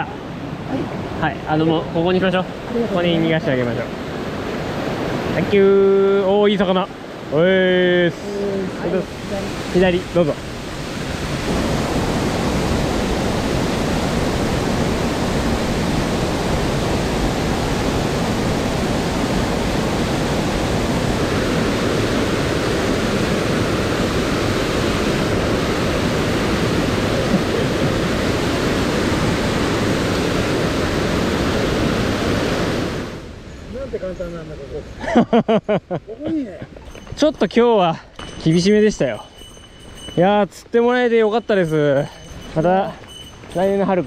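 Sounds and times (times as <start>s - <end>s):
mountain stream rushing: 0.0s - 33.5s, 36.3s - 44.0s.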